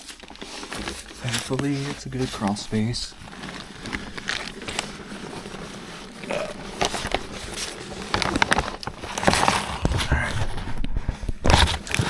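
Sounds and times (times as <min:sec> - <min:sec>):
scuffs and rustles of crawling: 0:00.0 - 0:12.0.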